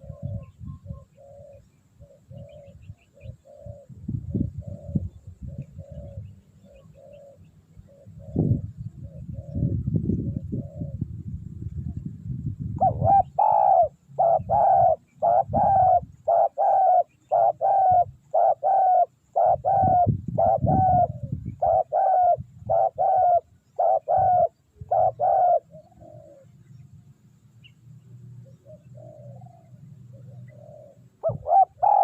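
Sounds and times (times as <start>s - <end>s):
dove cooing: 0.0s - 11.0s, 12.8s - 26.6s, 28.4s - 32.0s.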